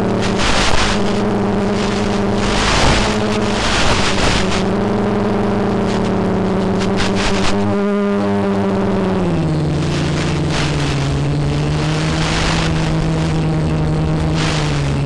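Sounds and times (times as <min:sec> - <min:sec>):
drone propellers humming: 0:00.0 - 0:15.0
hissy crackle bursts: 0:00.0 - 0:15.0.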